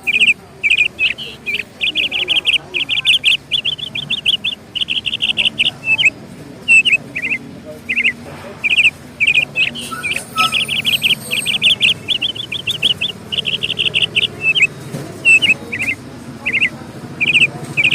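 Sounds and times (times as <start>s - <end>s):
bird chirping: 0.0s - 17.9s.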